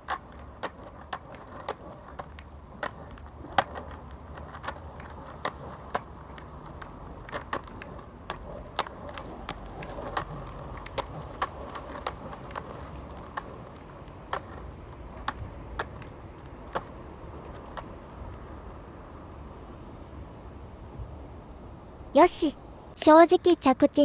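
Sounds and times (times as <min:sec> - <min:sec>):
skateboard wheels rumbling on pavement: 0:00.0 - 0:22.1.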